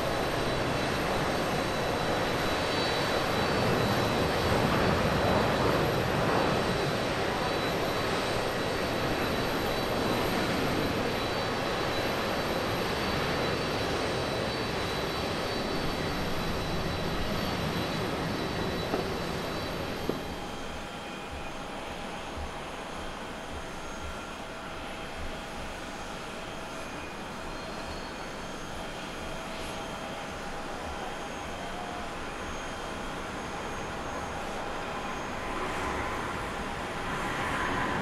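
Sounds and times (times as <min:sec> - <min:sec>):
jet engines at takeoff: 0:00.0 - 0:38.0.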